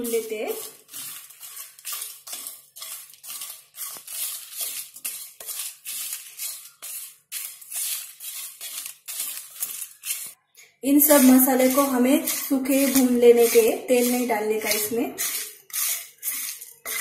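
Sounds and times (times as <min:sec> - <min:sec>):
spatula scraping spices in pan: 0:00.0 - 0:17.0.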